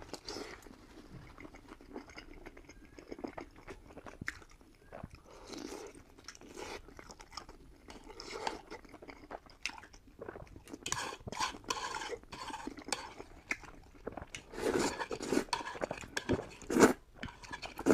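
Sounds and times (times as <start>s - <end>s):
chewing and crunching food: 0.0s - 17.9s.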